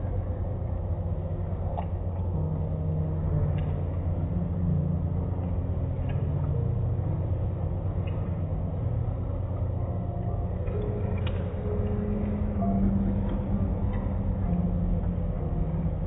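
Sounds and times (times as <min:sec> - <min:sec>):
low rumble of motors: 0:00.0 - 0:16.0.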